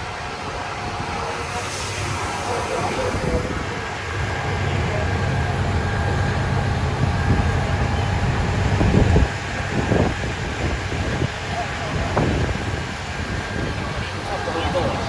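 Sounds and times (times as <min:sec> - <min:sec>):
heavy vehicle engine rumble: 0:00.0 - 0:15.0.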